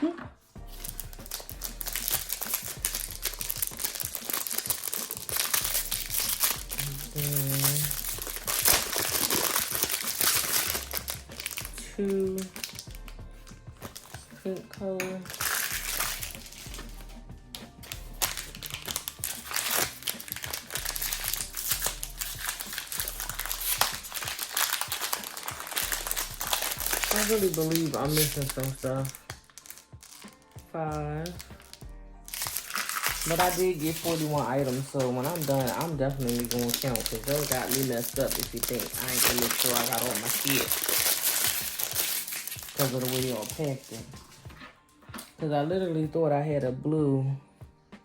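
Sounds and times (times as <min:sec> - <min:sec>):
plastic packaging crinkling: 0:00.7 - 0:13.0, 0:13.8 - 0:17.1, 0:17.8 - 0:30.6, 0:31.2 - 0:44.4.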